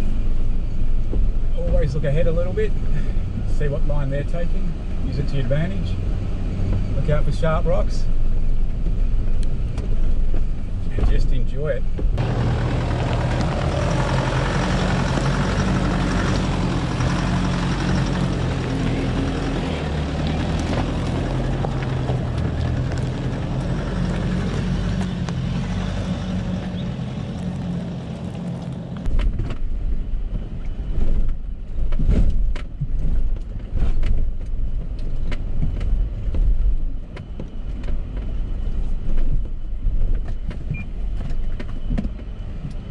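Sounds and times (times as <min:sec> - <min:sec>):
engine running at low revs: 0:00.0 - 0:42.9.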